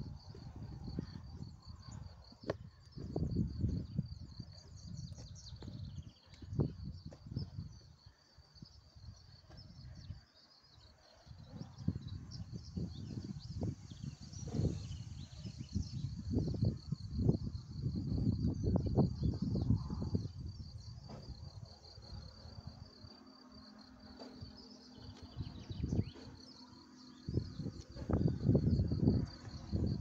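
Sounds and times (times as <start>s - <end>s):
wind buffeting microphone: 0.0s - 10.2s, 11.2s - 22.9s, 24.2s - 26.5s, 27.1s - 30.0s
insects chirring: 0.0s - 30.0s.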